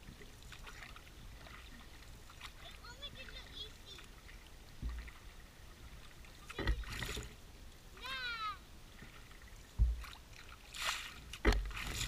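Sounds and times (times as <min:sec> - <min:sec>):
paddle knocking canoe: 0:00.0 - 0:07.4, 0:08.9 - 0:10.6, 0:11.2 - 0:12.0
paddle strokes in water: 0:00.0 - 0:07.4, 0:08.8 - 0:12.0.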